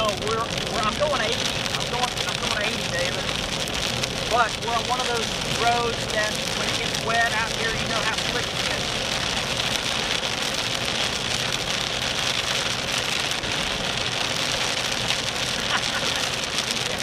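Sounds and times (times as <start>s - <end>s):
rain hissing: 0.0s - 17.0s
tyres on a wet road: 0.0s - 17.0s.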